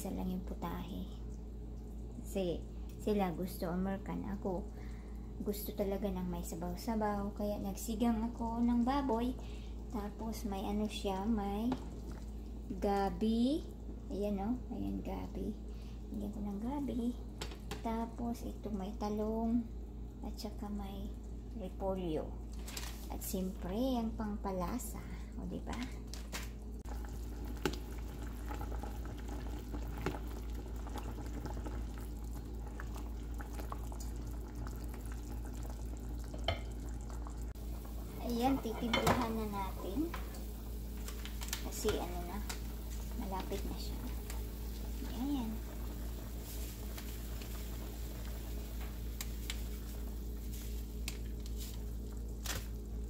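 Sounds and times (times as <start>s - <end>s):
broth boiling and bubbling: 0.0s - 53.0s.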